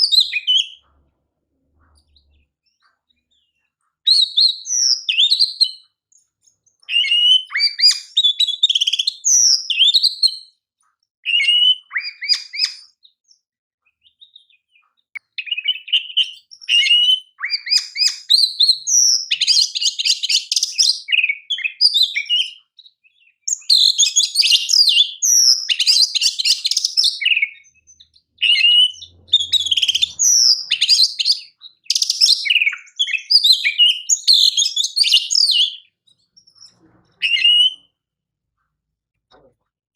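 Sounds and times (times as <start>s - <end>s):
bird singing whistles and trills: 0.0s - 0.9s, 2.0s - 10.6s, 11.2s - 13.4s, 14.0s - 37.9s.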